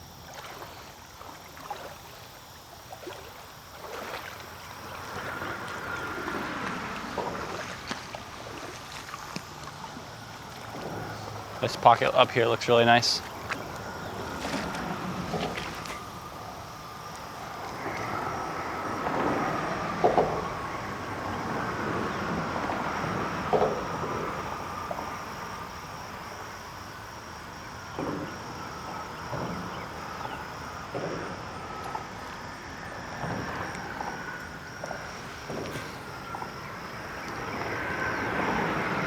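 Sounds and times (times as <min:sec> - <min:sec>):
high insect drone: 0:00.0 - 0:39.0
road traffic hum: 0:04.4 - 0:39.0.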